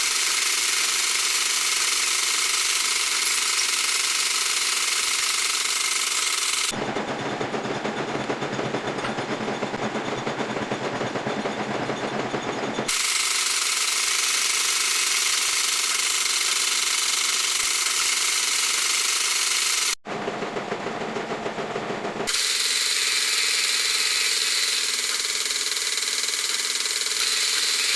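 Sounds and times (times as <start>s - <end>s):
machine grinding hiss: 0.0s - 27.9s
metalworking machine rattling: 0.0s - 27.9s.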